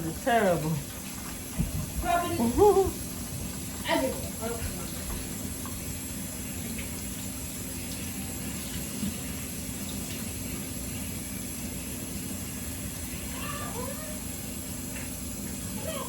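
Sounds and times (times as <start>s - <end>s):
water running in a kitchen: 0.0s - 16.0s.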